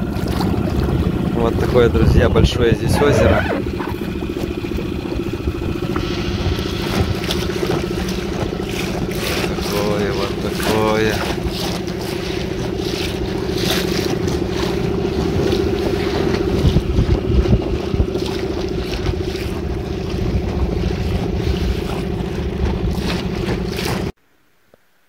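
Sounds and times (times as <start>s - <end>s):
wind buffeting microphone: 0.0s - 24.1s
boat motor running: 0.0s - 24.2s
water rushing past: 0.0s - 24.2s.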